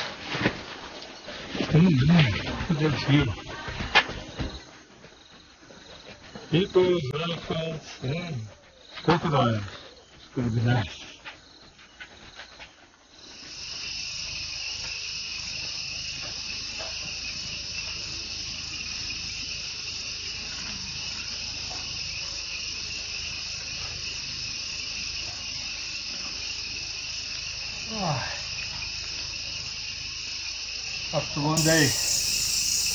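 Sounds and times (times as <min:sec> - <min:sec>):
night insects droning: 0:00.0 - 0:32.9.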